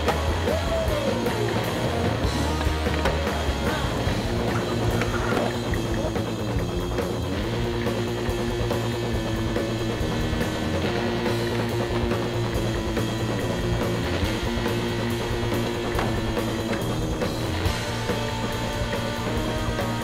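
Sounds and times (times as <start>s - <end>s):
rock music with drums and guitars: 0.0s - 20.0s.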